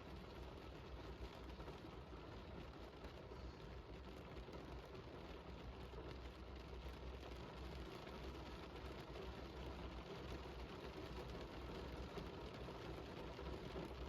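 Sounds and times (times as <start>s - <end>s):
faint steady rain: 0.0s - 14.0s
low steady rumble: 0.0s - 14.0s.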